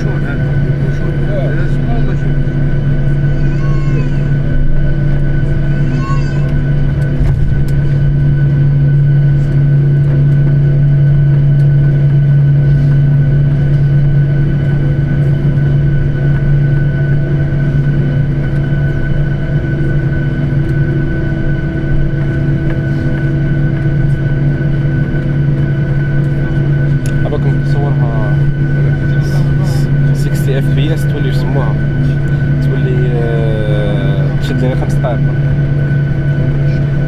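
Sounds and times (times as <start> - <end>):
airliner cabin drone: 0.0 - 37.0.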